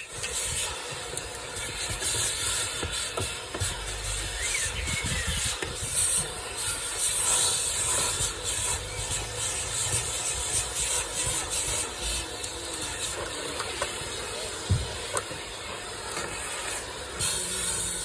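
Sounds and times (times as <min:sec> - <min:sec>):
vacuum cleaner suction hiss: 0:00.0 - 0:18.0.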